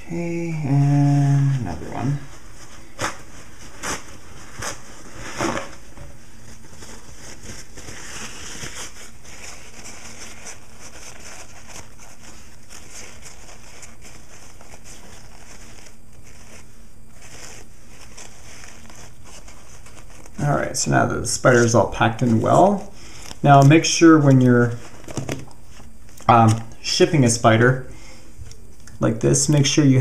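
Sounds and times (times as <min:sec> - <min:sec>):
steady low hiss: 0:00.0 - 0:30.0
padding rustling and crinkling: 0:01.9 - 0:20.8, 0:21.6 - 0:26.7.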